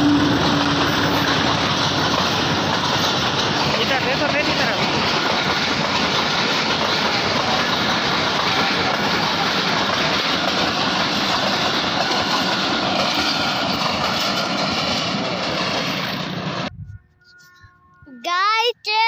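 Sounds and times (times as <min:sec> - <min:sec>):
train rumbling and rattling: 0:00.0 - 0:17.2.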